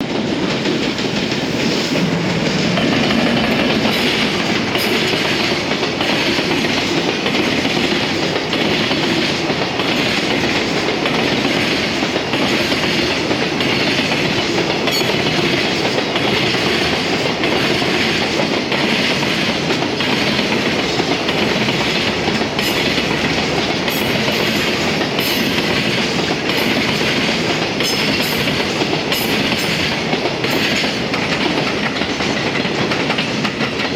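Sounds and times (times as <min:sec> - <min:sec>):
wheels clattering over rail joints: 0:00.0 - 0:33.9.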